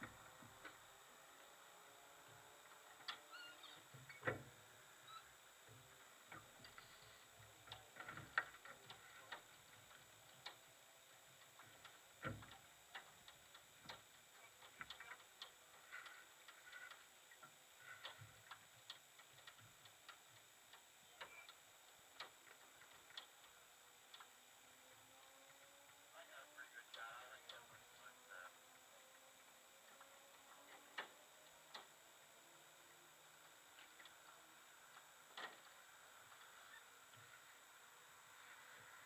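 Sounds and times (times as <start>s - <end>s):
faint clicks and ticks: 0.0s - 39.0s.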